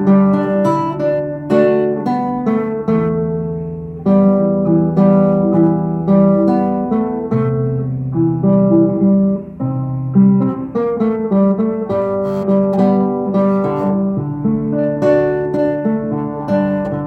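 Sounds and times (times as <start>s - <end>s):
acoustic guitar melody: 0.0s - 17.0s
strummed guitar chords: 0.0s - 17.0s.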